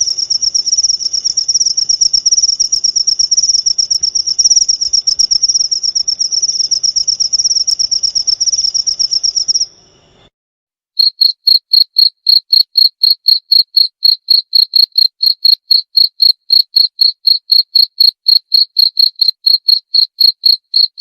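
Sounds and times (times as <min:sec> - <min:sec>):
cricket chirping trill: 0:00.0 - 0:10.3, 0:11.0 - 0:21.0.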